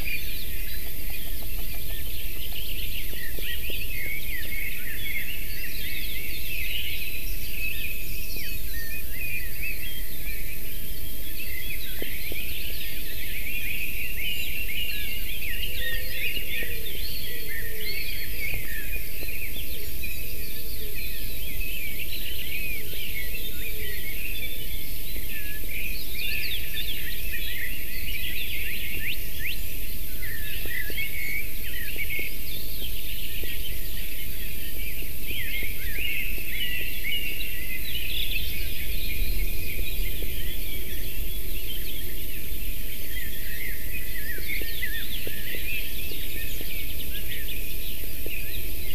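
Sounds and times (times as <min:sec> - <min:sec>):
small birds chirping and trilling: 0:00.0 - 0:48.9.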